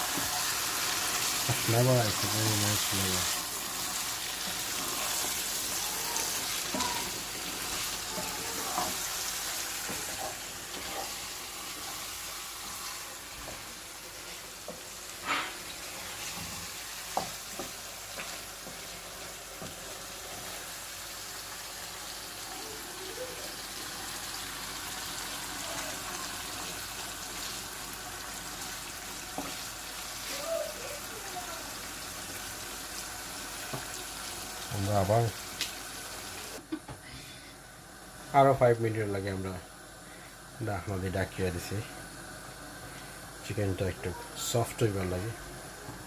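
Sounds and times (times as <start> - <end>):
food sizzling in a pot: 0.0 - 46.0.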